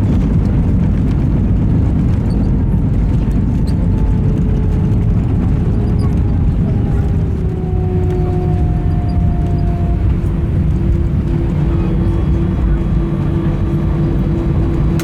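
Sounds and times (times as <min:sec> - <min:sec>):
engine rumble in aircraft cabin: 0:00.0 - 0:15.0
engine whine falling in pitch: 0:00.1 - 0:15.0.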